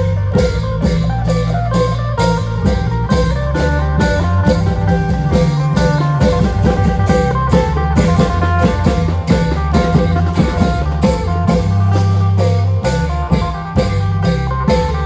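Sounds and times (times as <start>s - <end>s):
deep held bass line: 0.0s - 15.0s
drum strikes: 0.0s - 15.0s
plucked-string melody: 0.0s - 15.0s.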